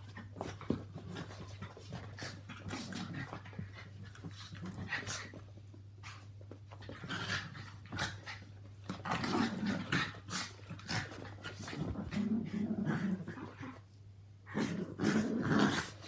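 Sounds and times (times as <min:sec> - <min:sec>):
small dogs play growling: 0:00.0 - 0:16.0.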